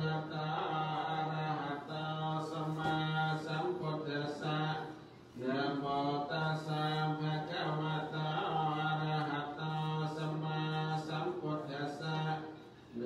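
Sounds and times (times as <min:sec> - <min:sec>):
monks chanting in monotone: 0:00.0 - 0:13.0.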